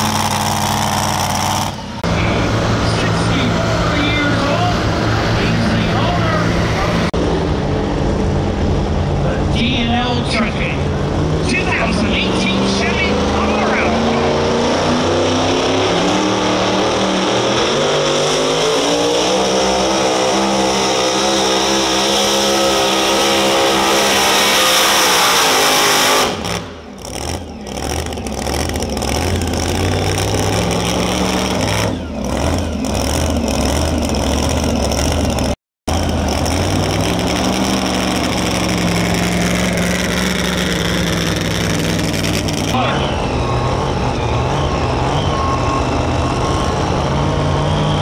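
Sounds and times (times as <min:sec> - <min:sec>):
supercharged engine at full throttle: 0:00.0 - 0:48.0.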